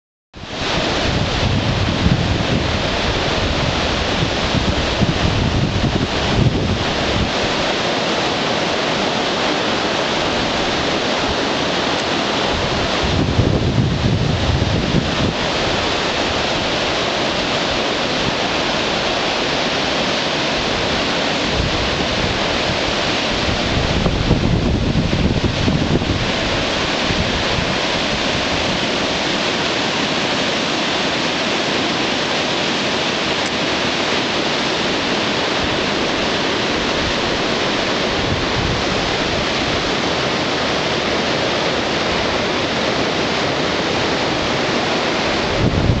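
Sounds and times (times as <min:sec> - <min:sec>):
river rapids rushing: 0:00.4 - 0:46.0
wind buffeting microphone: 0:00.4 - 0:46.0.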